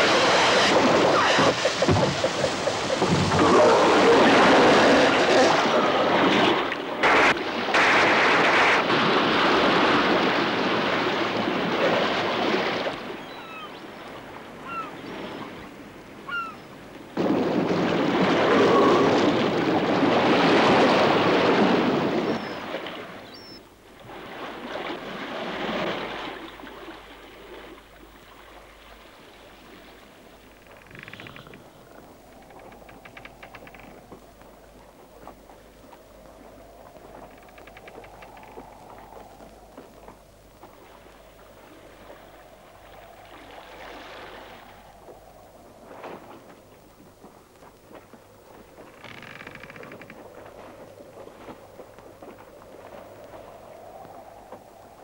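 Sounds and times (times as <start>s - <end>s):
sea water splashing and churning: 0.0s - 55.0s.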